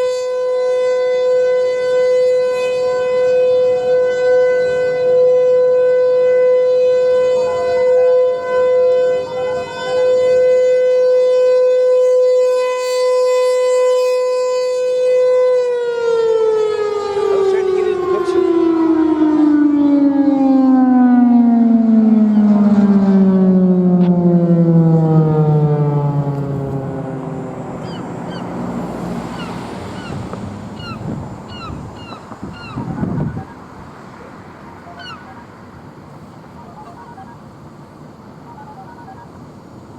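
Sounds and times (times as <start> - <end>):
warning siren winding down: 0.0 - 35.6.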